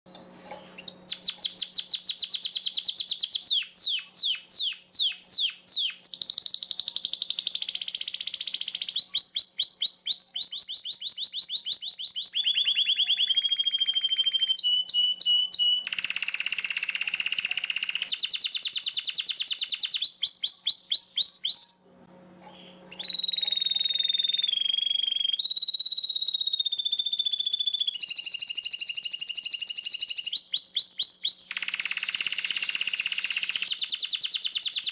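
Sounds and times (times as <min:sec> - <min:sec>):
canary singing trills: 0:00.6 - 0:21.8, 0:22.5 - 0:34.9.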